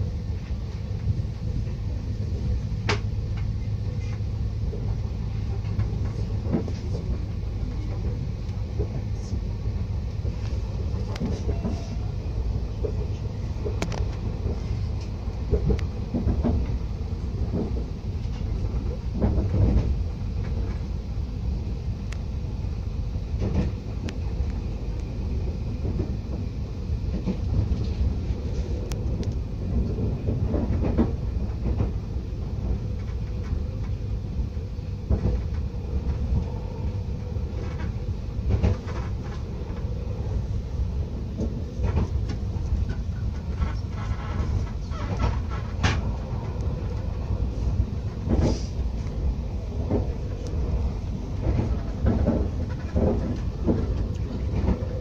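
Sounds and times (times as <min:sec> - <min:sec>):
train clicks and knocks: 0:00.0 - 0:55.0
train wheels rumbling on rails: 0:00.0 - 0:55.0.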